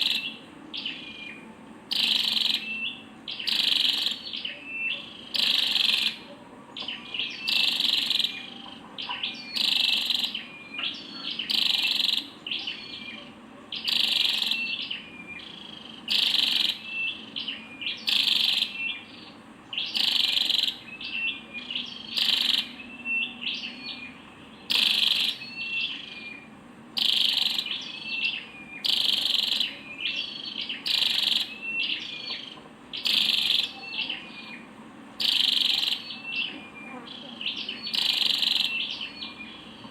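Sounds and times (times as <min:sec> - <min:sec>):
bird scratchy high-pitched call: 0:00.0 - 0:39.9.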